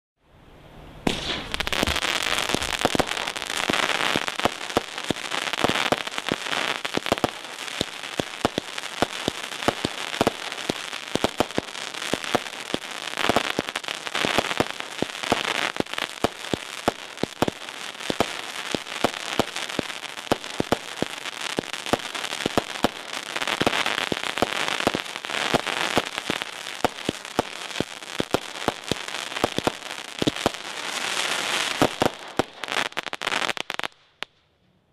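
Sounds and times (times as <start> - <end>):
firework barrage shots: 1.0 - 34.0
firework crackling: 1.0 - 34.3
sharp firework pops: 1.0 - 34.4.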